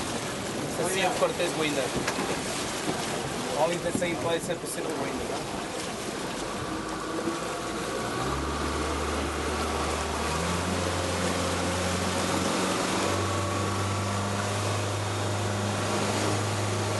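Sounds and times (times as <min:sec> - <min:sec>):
boat engine drone: 0:00.0 - 0:16.9
water rushing: 0:00.0 - 0:16.9.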